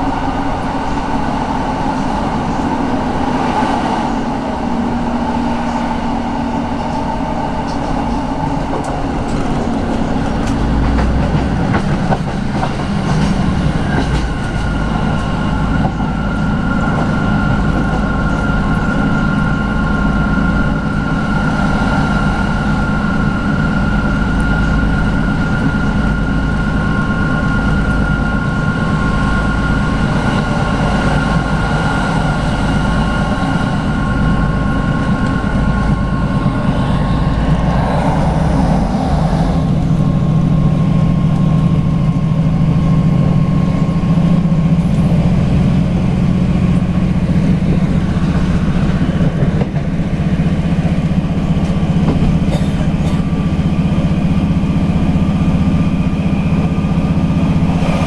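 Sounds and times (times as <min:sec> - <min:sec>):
train wheels and diesel engine rumble: 0:00.0 - 0:58.0.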